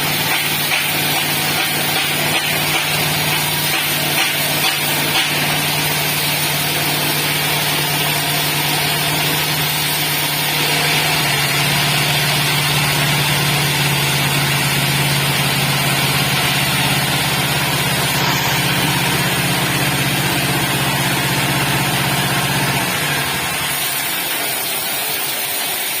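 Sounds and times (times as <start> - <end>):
sawmill engine low hum: 0.0 - 26.0.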